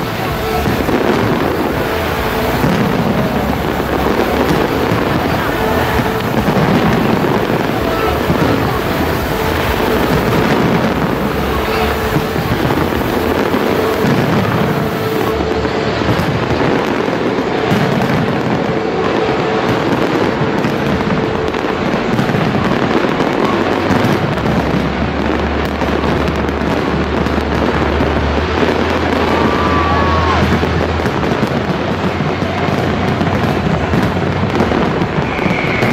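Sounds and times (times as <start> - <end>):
faint music: 0.0 - 35.9
fireworks bangs and crackles: 0.0 - 35.9.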